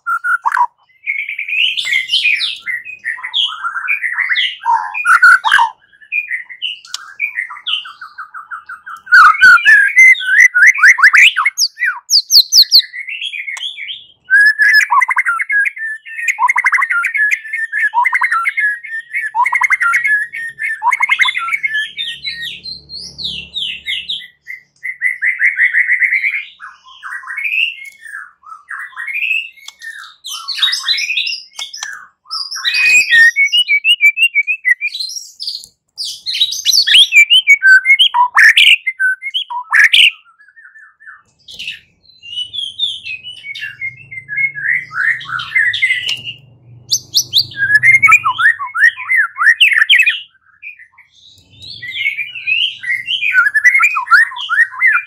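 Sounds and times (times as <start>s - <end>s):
bird singing whistled phrases: 0.0s - 55.0s.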